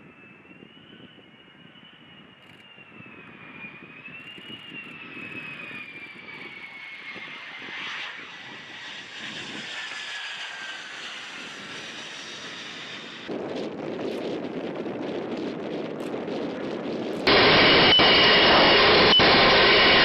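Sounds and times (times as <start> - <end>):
jet engine whine and rumble: 0.0 - 20.0.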